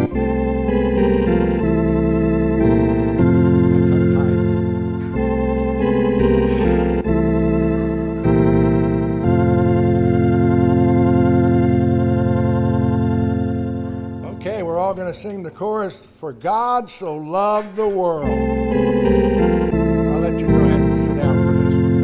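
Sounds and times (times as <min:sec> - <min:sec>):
organ chords: 0:00.0 - 0:22.0.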